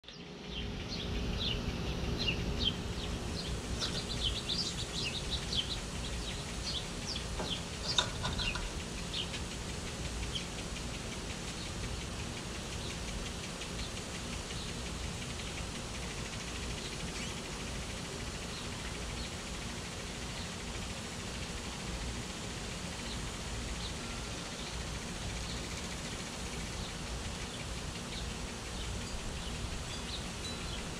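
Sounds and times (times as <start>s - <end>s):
small birds chirping: 0.0s - 30.9s
steady low background noise: 0.0s - 30.9s.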